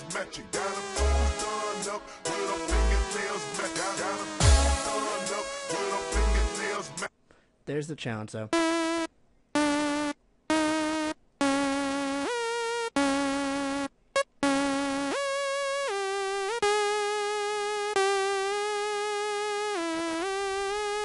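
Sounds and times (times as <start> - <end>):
synth lead melody: 0.0 - 6.9, 8.6 - 21.0.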